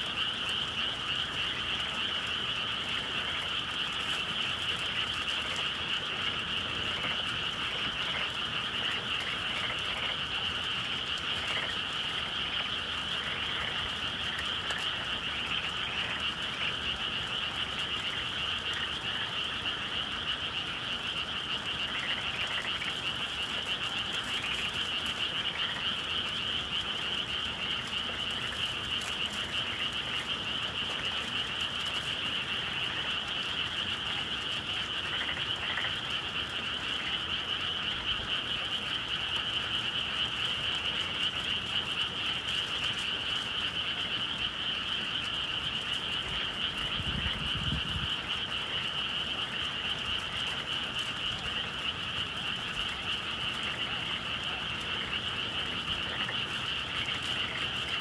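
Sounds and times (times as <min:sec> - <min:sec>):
frogs calling: 0:00.0 - 0:58.0.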